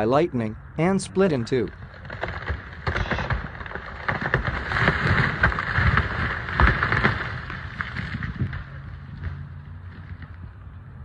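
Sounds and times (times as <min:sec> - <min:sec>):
fire rushing with crackles and pops: 0:01.2 - 0:10.7.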